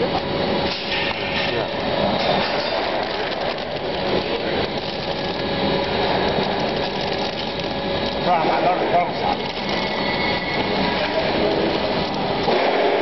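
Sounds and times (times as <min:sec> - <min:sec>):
nut roasting machine clatter: 0:00.0 - 0:13.0.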